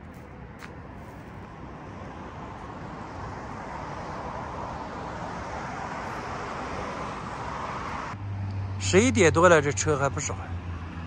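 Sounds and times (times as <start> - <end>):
vehicle tyre and engine noise: 0.0 - 11.0.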